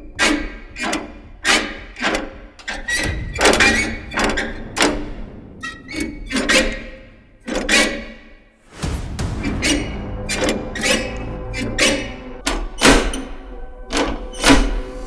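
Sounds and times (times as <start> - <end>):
metallic clanks of machinery parts: 0.0 - 8.4, 9.4 - 15.0.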